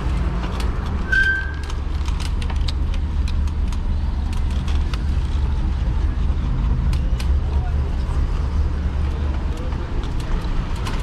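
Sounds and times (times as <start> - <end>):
e-bike riding rumble: 0.0 - 11.0.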